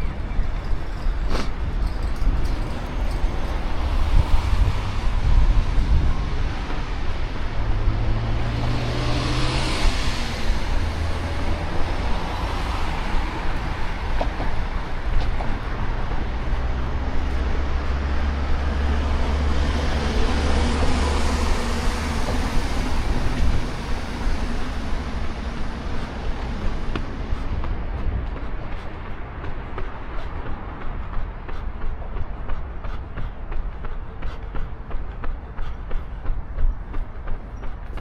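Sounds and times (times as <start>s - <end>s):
hum of road traffic: 0.0s - 38.0s
vehicles passing by: 0.0s - 38.0s.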